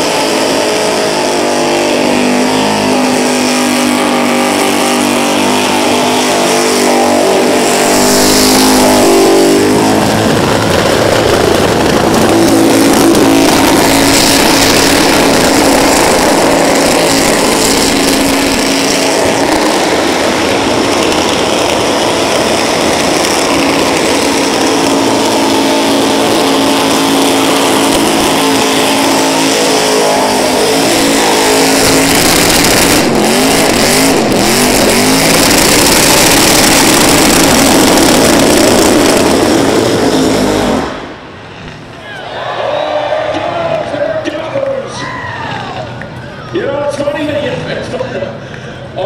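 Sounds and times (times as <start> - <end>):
car engine at high revs: 0.0 - 41.9.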